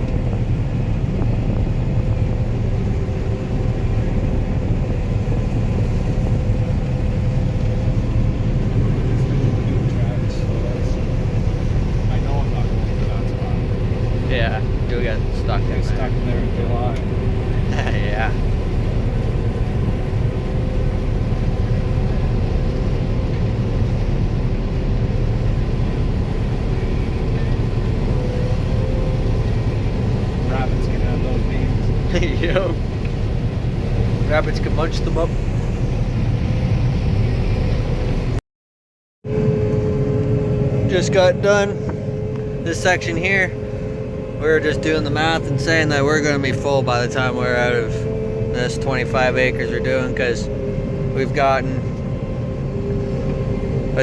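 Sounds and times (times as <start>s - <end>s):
combine harvester drone: 0.0s - 38.4s, 39.3s - 54.0s.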